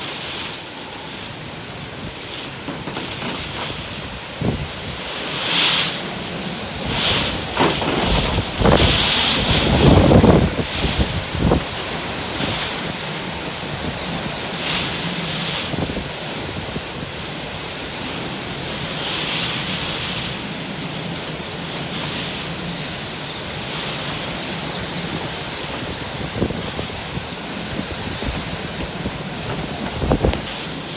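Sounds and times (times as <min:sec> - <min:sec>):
strong wind gusting: 0:00.7 - 0:30.9.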